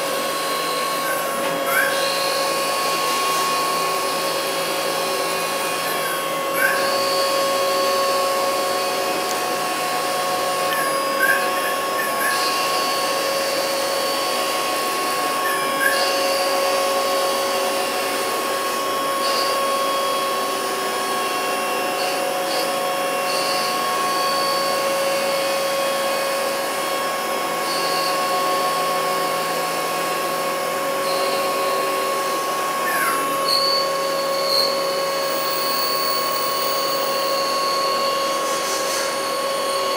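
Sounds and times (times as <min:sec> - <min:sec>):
lathe machine whine: 0:00.0 - 0:39.9.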